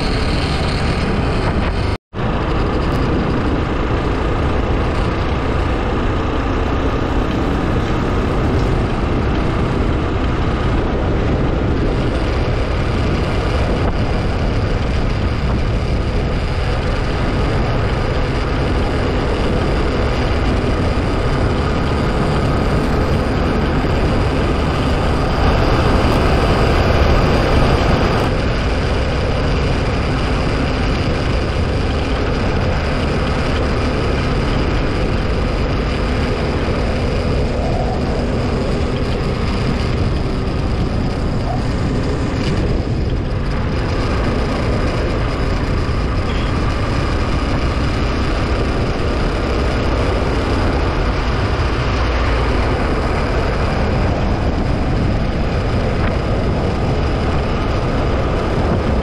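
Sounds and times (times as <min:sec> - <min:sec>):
engine drone: 0:00.0 - 0:59.0
wind rush: 0:00.0 - 0:59.0.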